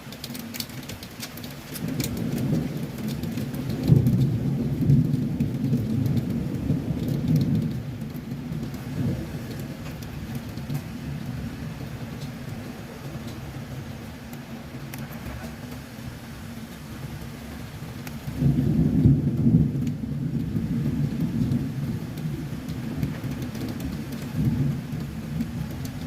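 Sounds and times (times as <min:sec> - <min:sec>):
fine rain ticks: 0:00.0 - 0:26.0
low wind rumble: 0:01.0 - 0:26.0.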